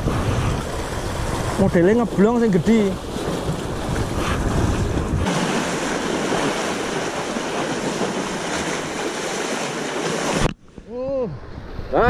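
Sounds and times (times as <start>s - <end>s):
waves washing on rocky shore: 0.0s - 10.5s
wind rumbling on microphone: 0.0s - 12.0s.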